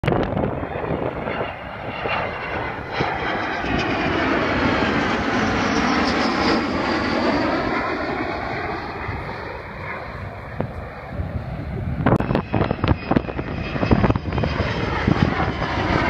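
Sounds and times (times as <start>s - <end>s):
jet planes flying past: 0.0s - 16.0s.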